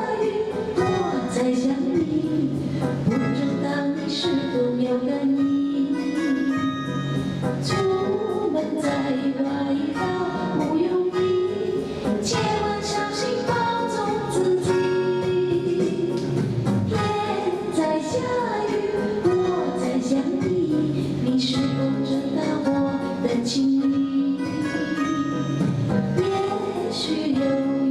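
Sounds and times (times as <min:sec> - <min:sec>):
person singing: 0:00.0 - 0:06.8, 0:07.7 - 0:27.9
guitar accompaniment: 0:00.0 - 0:27.9.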